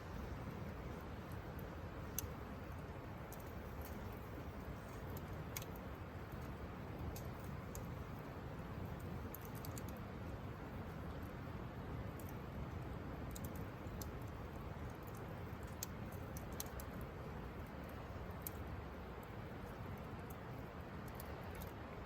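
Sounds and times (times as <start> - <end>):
campfire crackling: 0.0 - 21.8.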